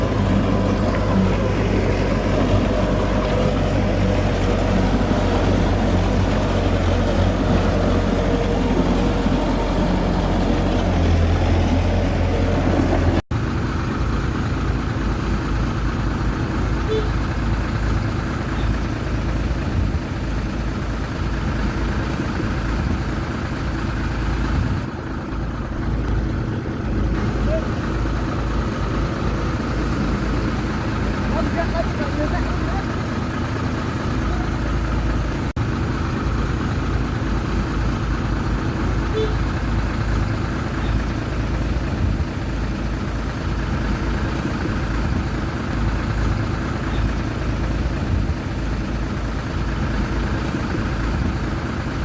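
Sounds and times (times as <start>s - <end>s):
heavy diesel engines running: 0.0s - 52.0s.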